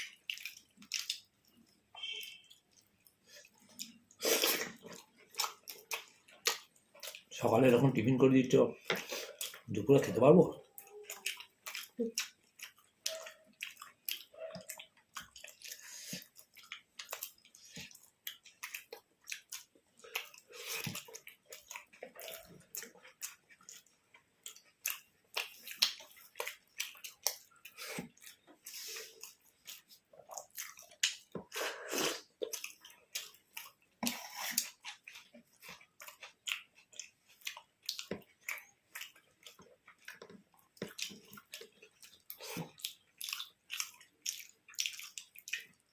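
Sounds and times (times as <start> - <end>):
people chewing and eating: 0.0 - 45.9.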